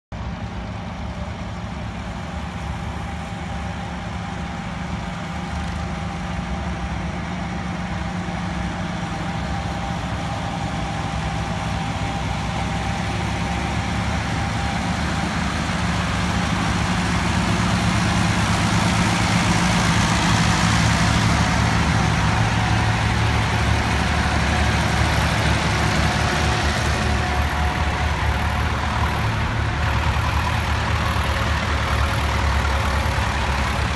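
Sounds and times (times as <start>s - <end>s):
tractor engines passing: 0.1s - 33.9s.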